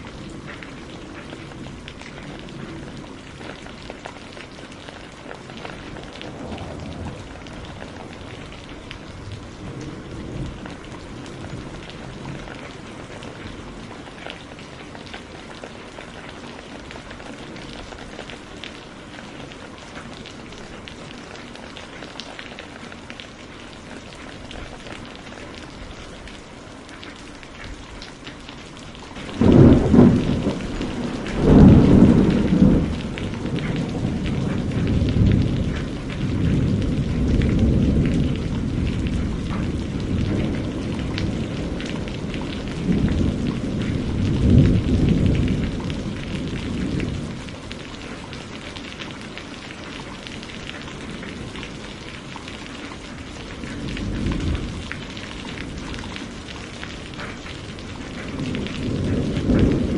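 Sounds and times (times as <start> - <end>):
thunder rumbles: 0.0 - 22.9, 28.6 - 49.3, 49.9 - 59.9
rain falling: 0.0 - 59.9.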